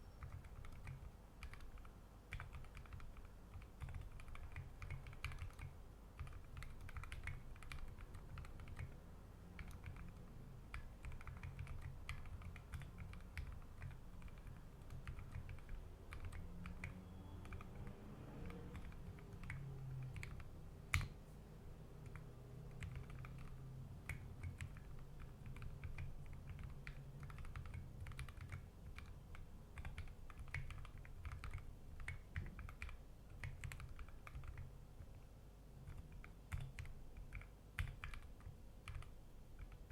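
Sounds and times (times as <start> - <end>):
mechanical keyboard typing: 0.0 - 21.2, 22.0 - 35.2, 35.8 - 39.9.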